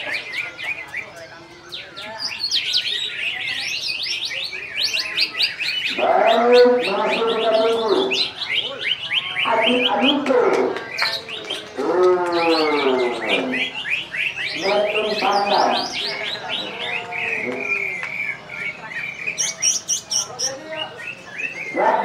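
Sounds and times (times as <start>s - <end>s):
bird chirping and twittering: 0.0s - 22.0s
low drawn-out voice-like calls: 4.3s - 22.0s.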